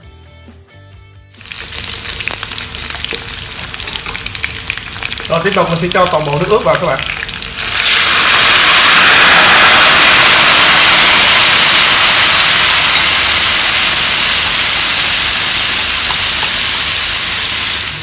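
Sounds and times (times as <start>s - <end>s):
liquid sizzling in hot oil: 1.3s - 18.0s.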